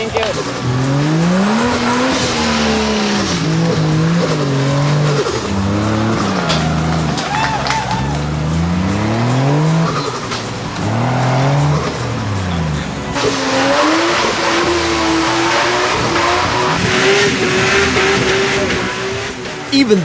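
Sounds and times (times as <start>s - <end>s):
loud hiss: 0.0s - 19.9s
engine revving: 0.0s - 20.0s.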